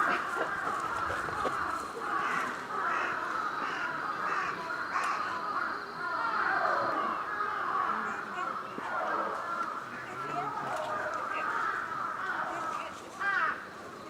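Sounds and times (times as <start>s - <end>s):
bird harsh calls: 0.0s - 14.0s.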